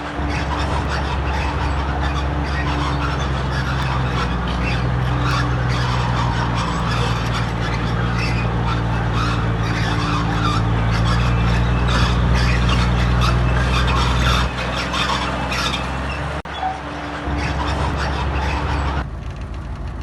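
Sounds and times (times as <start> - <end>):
bulldozer diesel engine running: 0.0 - 20.0
scraping and squealing machinery: 0.0 - 20.0.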